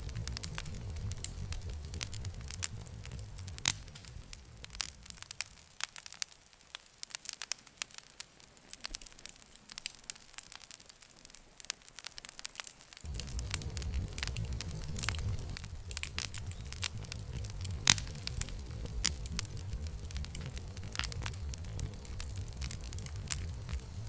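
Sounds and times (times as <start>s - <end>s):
low rumble of flame: 0.0s - 8.2s, 12.9s - 24.0s
campfire crackling and popping: 0.0s - 24.0s.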